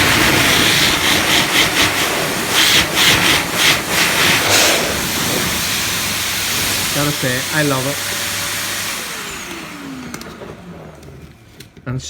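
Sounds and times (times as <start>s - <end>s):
blower dryer rushing air: 0.0s - 11.8s.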